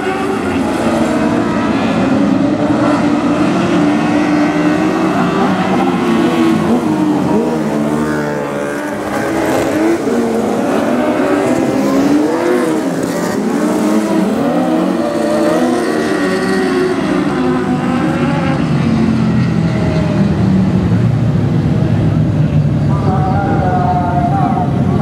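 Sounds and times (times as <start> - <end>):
racing car engines revving: 0.0 - 25.0.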